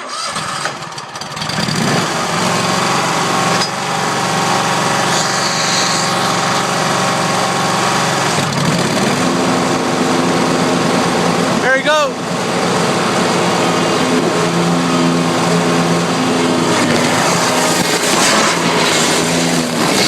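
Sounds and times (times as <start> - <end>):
riding lawn mower engine running: 0.0 - 20.0.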